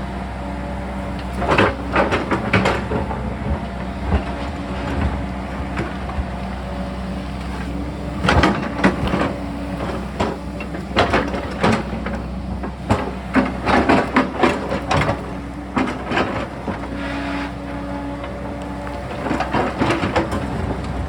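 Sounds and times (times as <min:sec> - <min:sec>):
excavator diesel engine running: 0:00.0 - 0:21.0
clanks and crunches of rock: 0:01.2 - 0:21.0.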